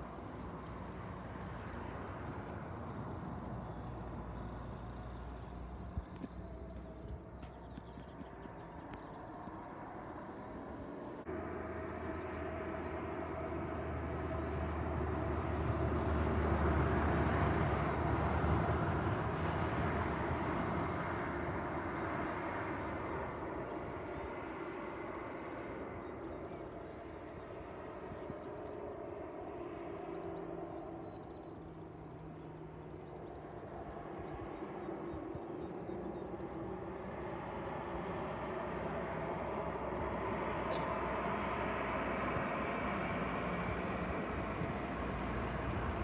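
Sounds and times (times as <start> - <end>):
airliner passing: 0.0 - 46.0.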